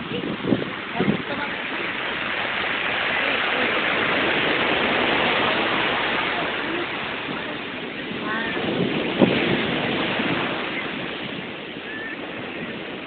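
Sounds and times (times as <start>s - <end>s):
ocean surf washing over sand: 0.0s - 13.0s.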